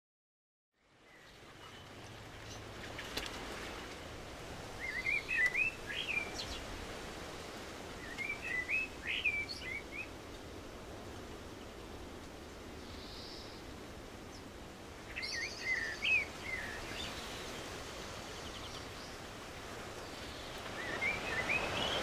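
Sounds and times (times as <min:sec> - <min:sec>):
songbird singing: 0:00.8 - 0:03.3, 0:04.6 - 0:10.5, 0:11.2 - 0:22.0
low background hiss: 0:00.8 - 0:22.0.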